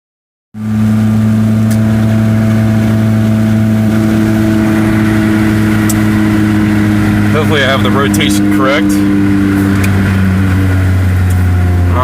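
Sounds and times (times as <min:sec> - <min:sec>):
car engine running: 0:00.6 - 0:12.0.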